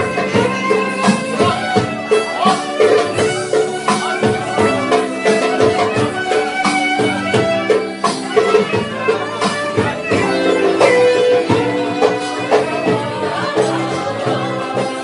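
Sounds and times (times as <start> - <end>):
song with melody over steady beat: 0.0 - 15.0.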